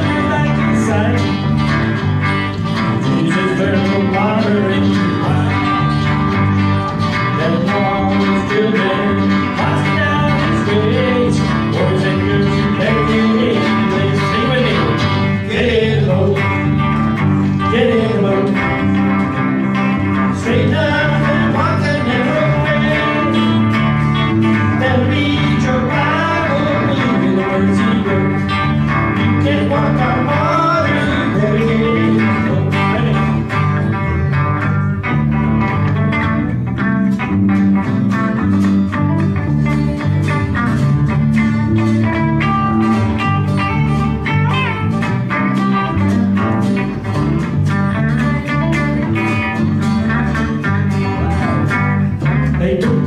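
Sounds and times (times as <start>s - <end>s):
electric bass: 0.0s - 53.0s
electric lead guitar melody: 0.0s - 53.0s
strummed acoustic guitar: 0.0s - 53.0s.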